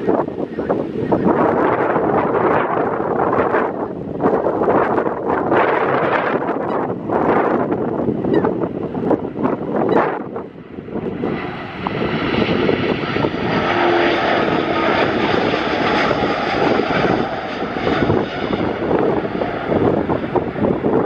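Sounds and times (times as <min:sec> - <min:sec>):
jet engines at takeoff thrust: 0:00.0 - 0:21.0.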